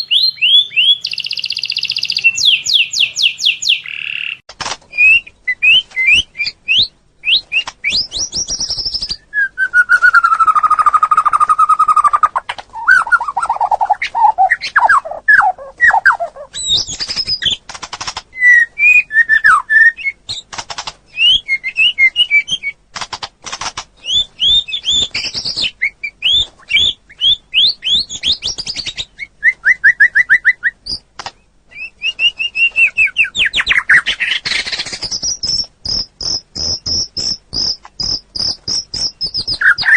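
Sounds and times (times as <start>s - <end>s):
songbird singing: 0.0s - 22.8s, 23.9s - 39.9s.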